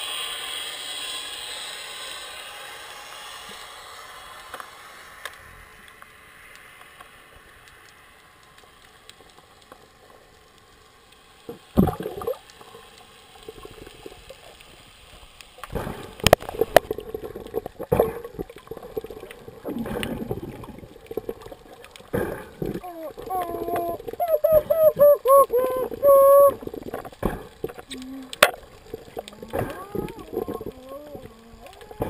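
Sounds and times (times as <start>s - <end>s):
underwater water hiss: 0.0s - 32.0s.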